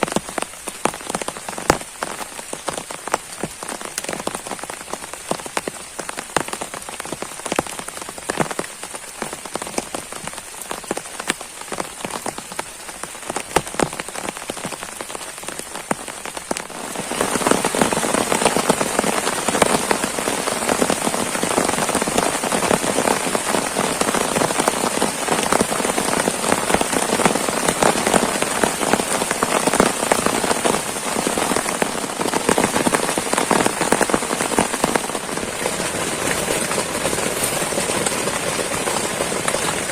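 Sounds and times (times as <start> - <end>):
heavy rain on a surface: 0.0 - 39.9
raindrops ticking: 0.0 - 39.9.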